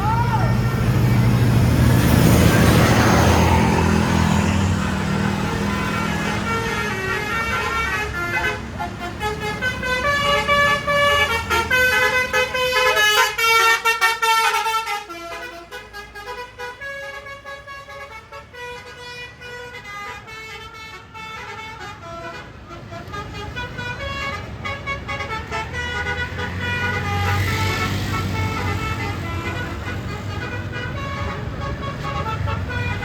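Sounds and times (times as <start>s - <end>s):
multi-tone musical bus horn: 0.0s - 33.0s.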